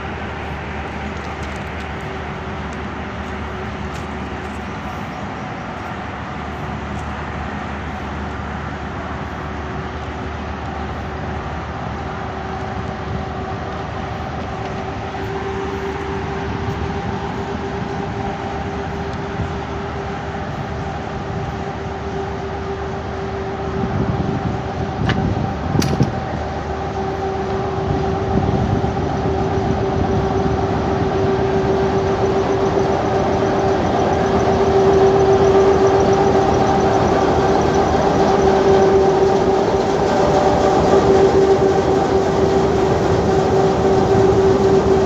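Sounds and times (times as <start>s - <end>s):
high steady whine: 0.0s - 45.0s
locomotive engine running: 0.0s - 45.0s.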